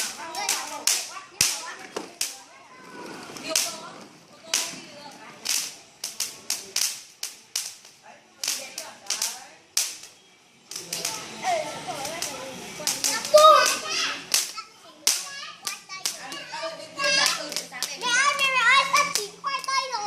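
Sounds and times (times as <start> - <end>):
fireworks cracking: 0.0 - 20.0.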